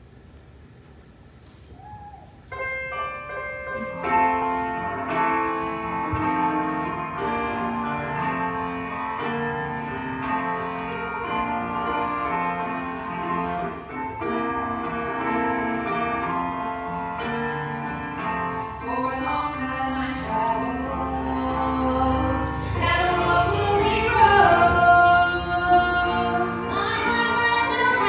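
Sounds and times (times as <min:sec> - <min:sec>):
instrumental music chords: 0:02.5 - 0:28.0.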